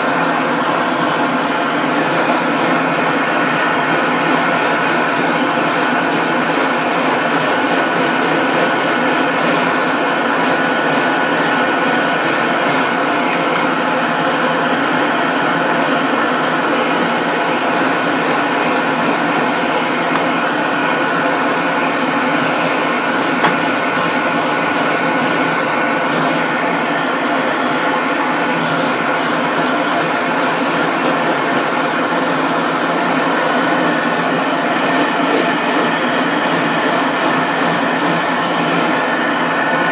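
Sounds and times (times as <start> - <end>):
dryer blower motor rushing air: 0.0 - 39.9.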